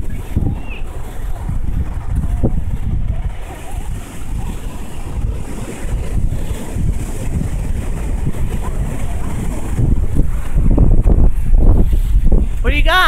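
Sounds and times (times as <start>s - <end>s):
surf hissing: 0.0s - 13.0s
wind buffeting microphone: 0.0s - 13.0s.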